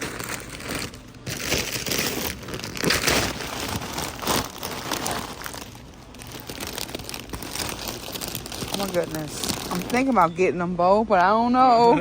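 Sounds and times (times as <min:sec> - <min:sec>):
plastic chip bags crinkling: 0:00.0 - 0:10.4.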